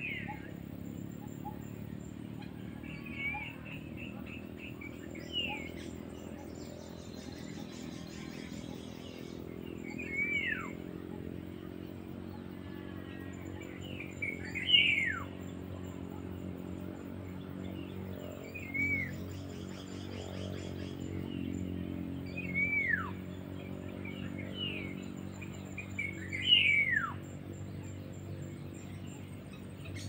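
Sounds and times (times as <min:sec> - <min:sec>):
rapid bird chirps: 0:00.0 - 0:30.0
steady low hum: 0:00.0 - 0:30.0.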